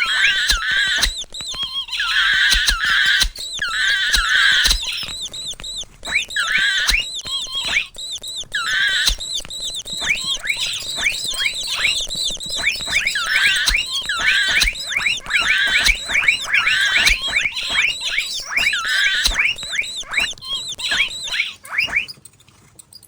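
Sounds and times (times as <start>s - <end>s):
high-pitched mouse squeaks: 0.0s - 23.0s.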